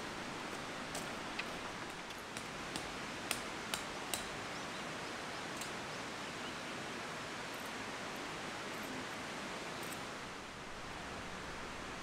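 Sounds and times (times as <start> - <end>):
rushing outdoor noise: 0.0 - 12.0.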